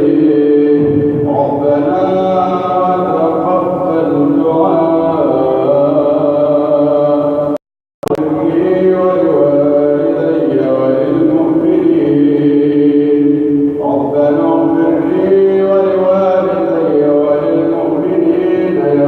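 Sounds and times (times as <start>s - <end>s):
person chanting melodic recitation: 0.0s - 19.0s.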